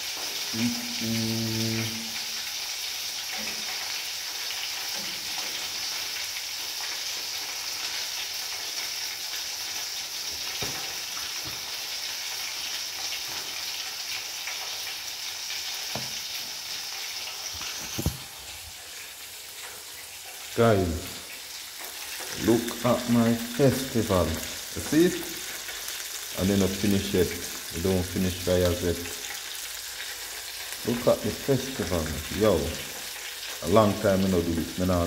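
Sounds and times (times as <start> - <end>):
chicken frying in oil: 0.0 - 35.0.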